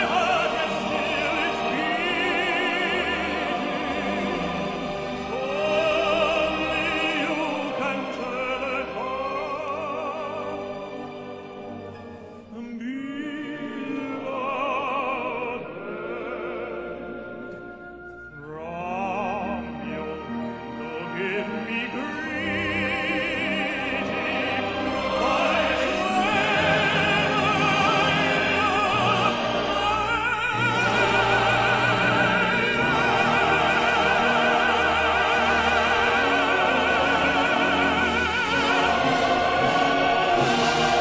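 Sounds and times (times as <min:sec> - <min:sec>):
operatic tenor singing: 0:00.0 - 0:41.0
symphony orchestra playing: 0:00.0 - 0:41.0.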